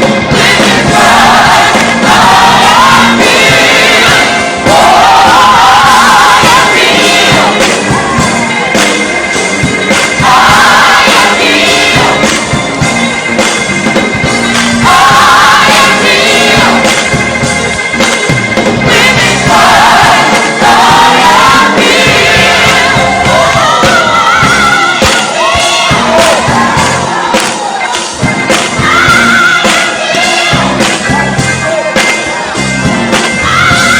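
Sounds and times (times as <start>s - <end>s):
choir singing gospel song: 0.0s - 33.9s.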